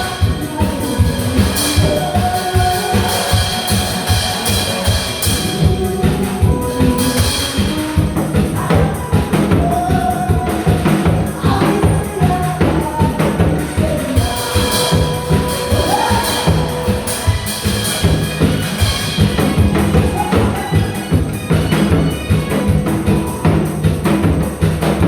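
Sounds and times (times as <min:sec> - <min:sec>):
hourglass drum rapid rhythm: 0:00.0 - 0:25.0
recorded music: 0:00.0 - 0:25.0.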